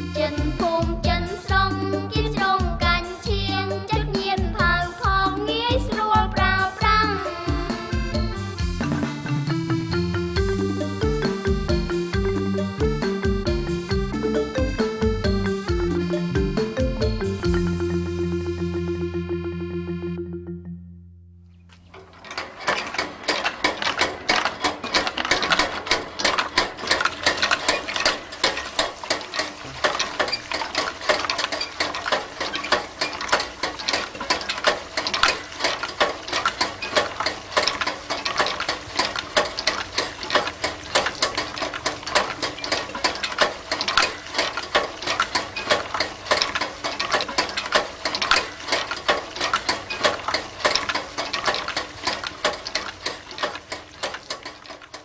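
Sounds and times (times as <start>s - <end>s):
rapid mechanical clicking and clattering: 0.0s - 9.2s, 10.3s - 17.8s, 21.8s - 55.0s.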